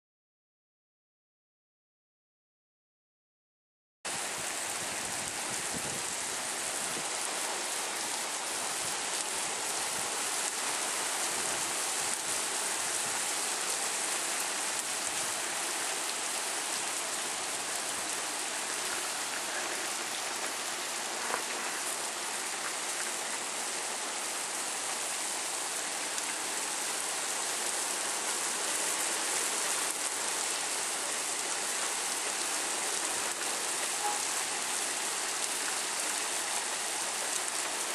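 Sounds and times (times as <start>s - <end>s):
heavy rain pouring: 4.1s - 37.9s.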